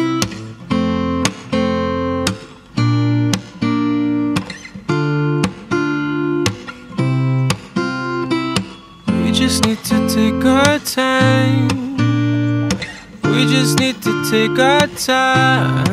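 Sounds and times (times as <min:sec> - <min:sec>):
acoustic guitar chords strummed: 0:00.0 - 0:15.9.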